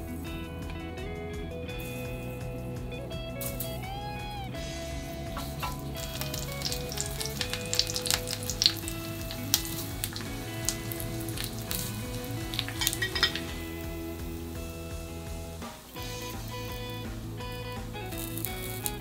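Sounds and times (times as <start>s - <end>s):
spattering oil crackling: 0.0s - 19.0s
eggplant sizzling in oil: 3.5s - 19.0s.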